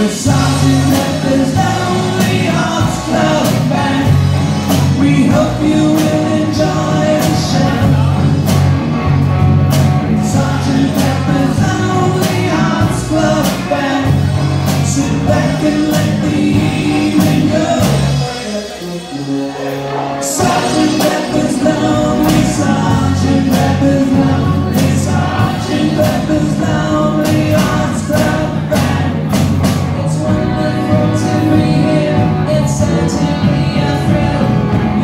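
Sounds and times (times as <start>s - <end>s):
harmony singing: 0.0s - 8.9s, 9.8s - 35.0s
drum kit: 0.0s - 35.0s
electric guitars: 0.0s - 35.0s
keyboard: 0.0s - 35.0s
lead vocal singing: 0.0s - 35.0s.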